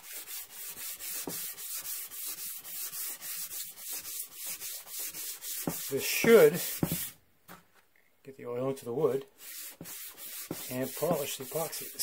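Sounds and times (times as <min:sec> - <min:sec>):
sandpaper rubbing on wood: 0:00.0 - 0:07.2, 0:09.4 - 0:12.0.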